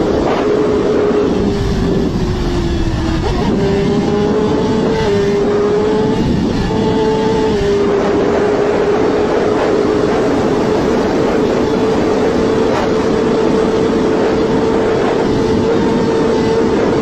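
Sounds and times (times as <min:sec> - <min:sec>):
racing motorcycle engine at high revs: 0:00.0 - 0:17.0
road and wind noise: 0:00.0 - 0:17.0.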